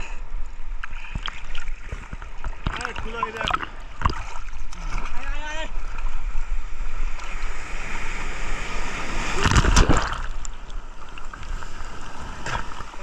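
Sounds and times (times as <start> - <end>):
sea water sloshing and splashing: 0.8 - 13.0
wave washing over camera: 1.1 - 13.0.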